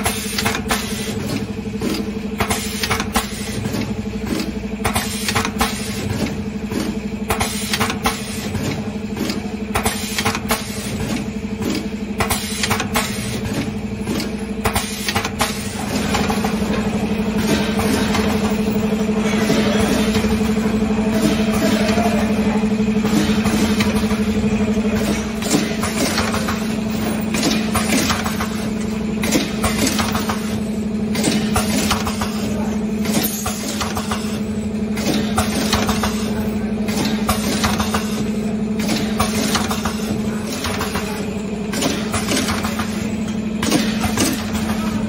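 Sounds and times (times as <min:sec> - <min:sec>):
machine motor hum: 0:00.0 - 0:45.0
mechanical clacks of sealing machine: 0:00.0 - 0:45.0.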